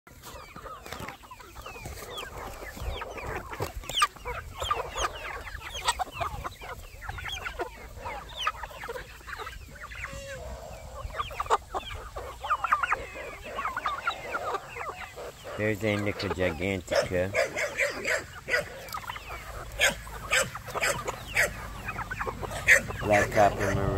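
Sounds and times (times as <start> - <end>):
chickens clucking: 0.1 - 23.9
chicken squawks: 0.2 - 23.9.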